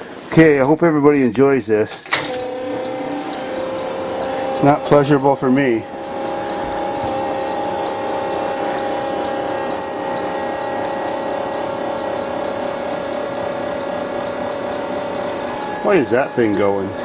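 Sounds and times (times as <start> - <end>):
steady hum: 2.0 - 17.0
dashboard warning buzzer beeping: 2.1 - 17.0.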